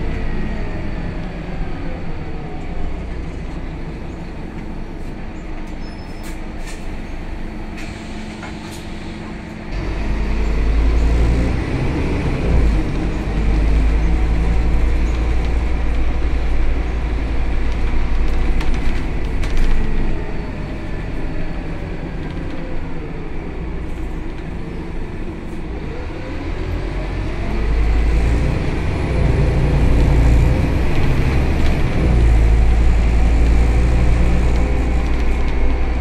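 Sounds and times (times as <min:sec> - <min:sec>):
bus diesel engine: 0:00.0 - 0:36.0.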